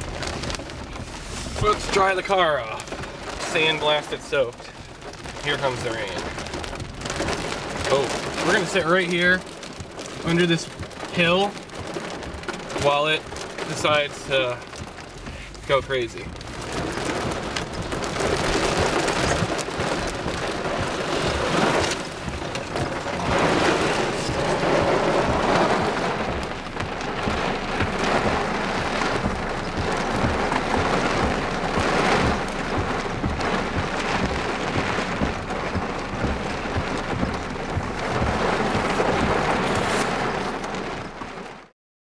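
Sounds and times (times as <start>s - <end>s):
heavy rain pelting car windshield: 0.0s - 41.7s.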